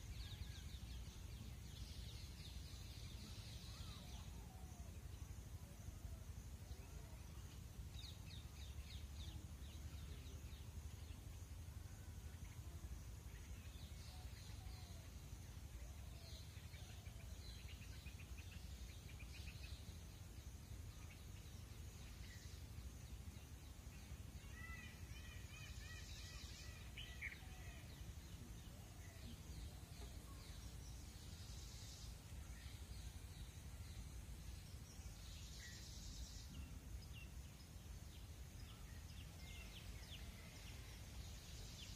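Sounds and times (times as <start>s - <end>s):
high insect hum: 0.0s - 41.9s
small birds chirping: 6.5s - 41.9s.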